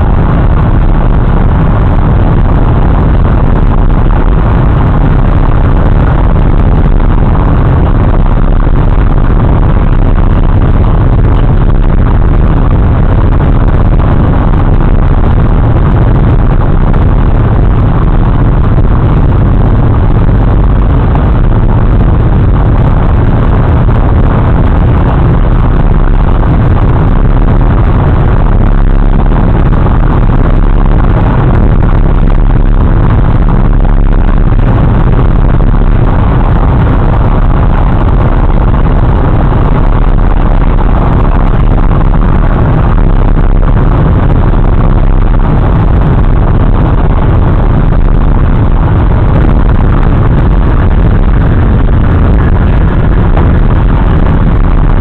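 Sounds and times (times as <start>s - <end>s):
tyre and road noise: 0.0s - 55.0s
wind rushing through car window: 0.0s - 55.0s.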